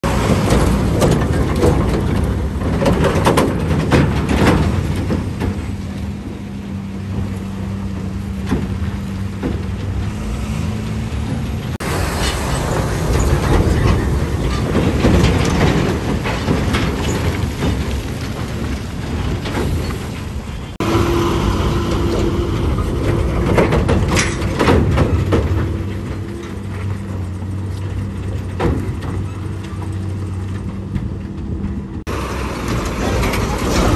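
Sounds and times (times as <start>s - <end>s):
diesel truck engines under load: 0.0s - 33.9s.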